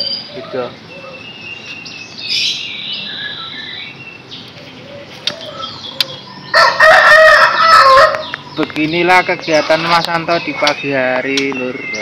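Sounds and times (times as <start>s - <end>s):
chirping birdsong: 0.0s - 12.0s
loud harsh bird call: 0.0s - 12.0s.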